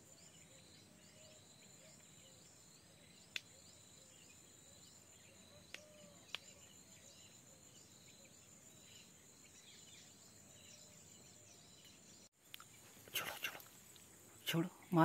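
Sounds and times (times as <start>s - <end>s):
soft bird chirps: 0.0s - 15.0s.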